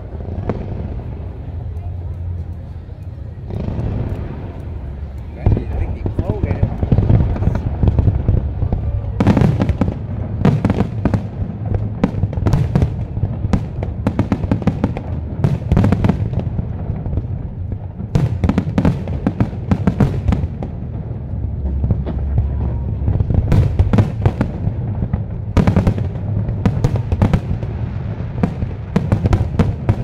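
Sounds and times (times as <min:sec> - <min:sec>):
fireworks bangs and crackles: 0:00.0 - 0:30.0
steady low rumble: 0:00.0 - 0:30.0.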